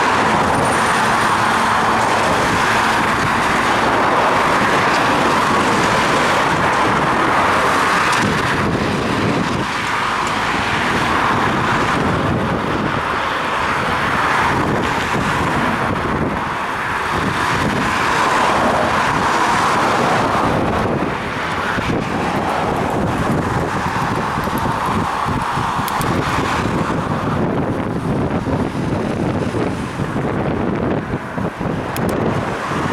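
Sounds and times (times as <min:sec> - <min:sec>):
passing cars and road noise: 0:00.0 - 0:32.9
wind on camera microphone: 0:00.0 - 0:32.9.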